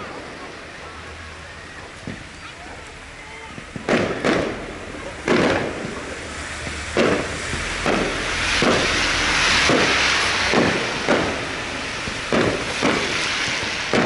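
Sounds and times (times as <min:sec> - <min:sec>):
fireworks bangs: 0:00.0 - 0:14.0
fireworks crackling hiss: 0:00.0 - 0:14.0.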